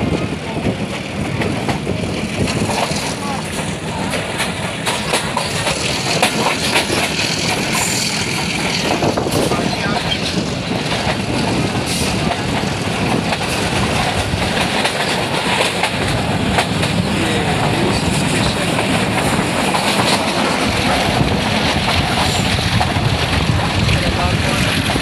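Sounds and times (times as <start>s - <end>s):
train wheels rumbling on rails: 0.0s - 25.0s
sharp rail clicks: 0.7s - 25.0s.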